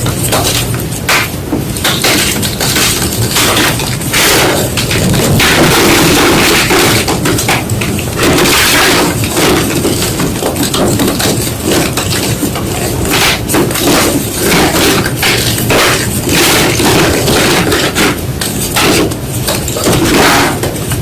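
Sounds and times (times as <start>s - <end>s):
chalk being crushed: 0.3s - 19.1s.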